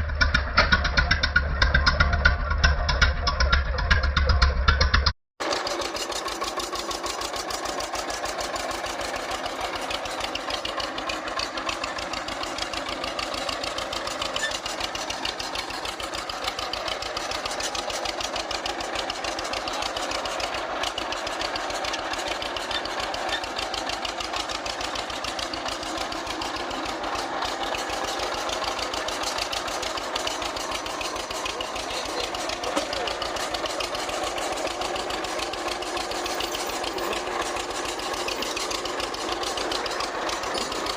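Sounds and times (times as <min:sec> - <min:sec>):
old engine running: 0:00.0 - 0:40.9.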